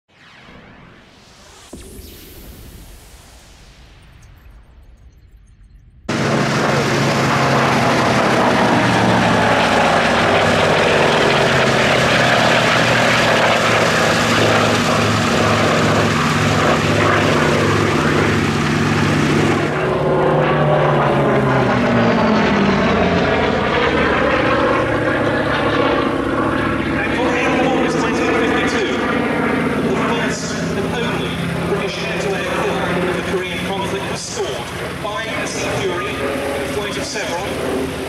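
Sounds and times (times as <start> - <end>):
propeller aircraft flypast: 6.0 - 38.0.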